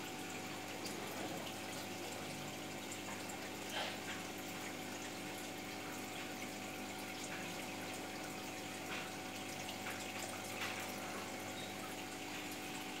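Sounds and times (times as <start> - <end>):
aquarium filter pump humming: 0.0 - 13.0
water trickling and splashing: 0.0 - 13.0
faint drips: 0.2 - 13.0.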